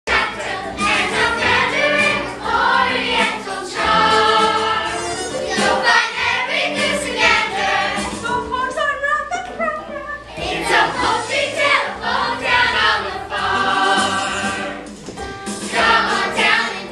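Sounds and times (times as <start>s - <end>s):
children and adults singing chorus: 0.1s - 8.4s, 10.4s - 14.8s, 15.7s - 16.9s
instrumental accompaniment: 0.1s - 16.9s.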